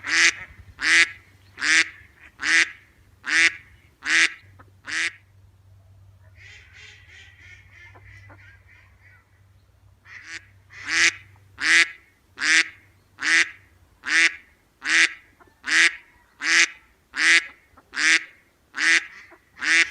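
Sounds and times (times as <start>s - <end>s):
duck quacking: 0.0s - 5.2s, 6.2s - 9.4s, 10.0s - 19.9s.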